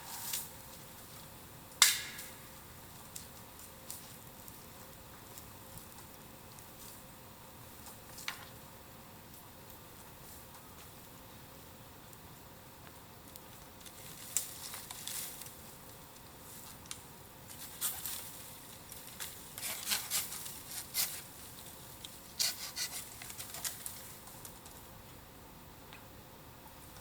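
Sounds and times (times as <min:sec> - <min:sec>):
bonfire crackling: 0:00.0 - 0:27.0.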